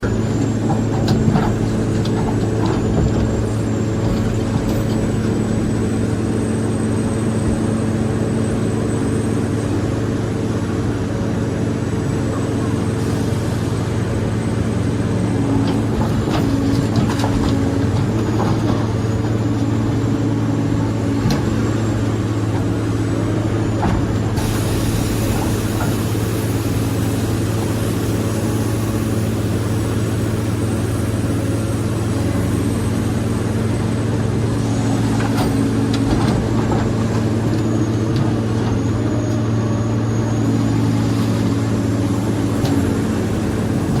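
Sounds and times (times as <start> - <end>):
heavy diesel engine humming: 0.0 - 44.0.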